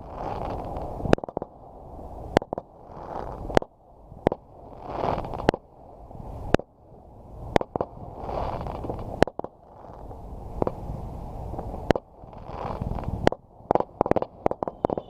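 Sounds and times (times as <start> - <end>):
fireworks banging: 0.0 - 1.6, 2.3 - 5.6, 7.5 - 15.0
rolling rumble and crackle: 0.0 - 15.0.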